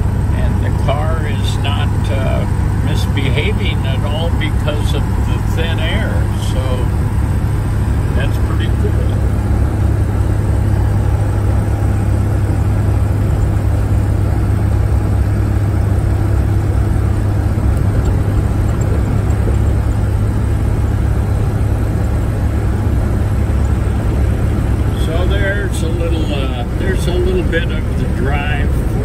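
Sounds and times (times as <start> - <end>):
car engine drone inside cabin: 0.0 - 29.0
road noise: 0.0 - 29.0.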